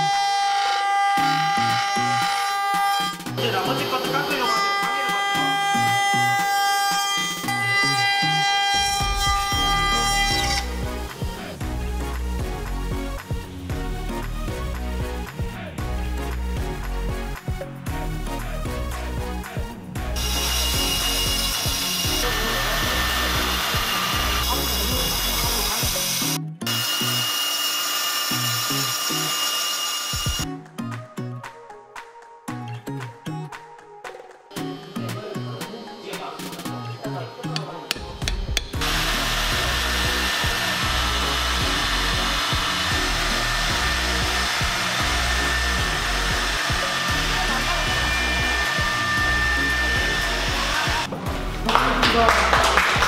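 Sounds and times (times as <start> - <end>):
band saw cutting wood: 0.0 - 17.4, 20.1 - 30.5, 34.5 - 51.2
background music: 0.0 - 53.0.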